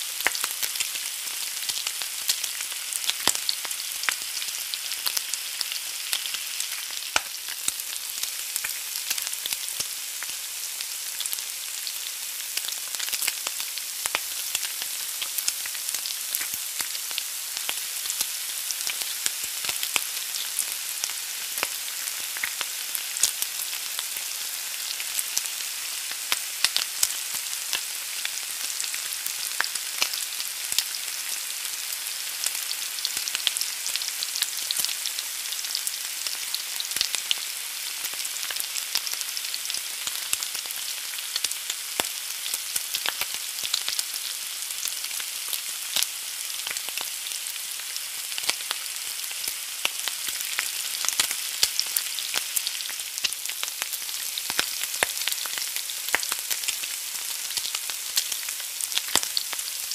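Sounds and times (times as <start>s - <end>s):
egg sizzling in a pan: 0.0s - 59.9s.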